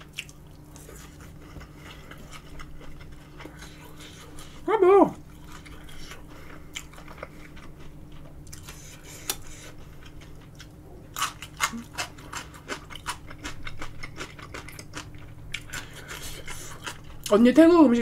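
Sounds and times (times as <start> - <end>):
crunchy chewing: 0.0 - 17.4.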